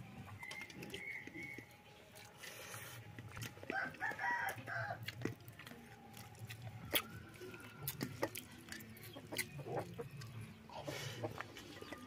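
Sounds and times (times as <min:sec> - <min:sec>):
faint farmyard animal calls: 0:00.0 - 0:12.0.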